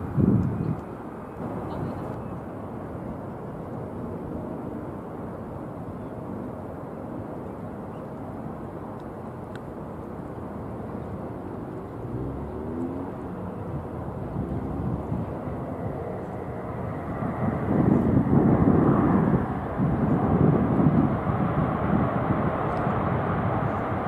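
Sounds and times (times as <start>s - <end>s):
distant jet airliner rumble: 0.0s - 24.0s
outdoor background noise: 0.0s - 24.0s.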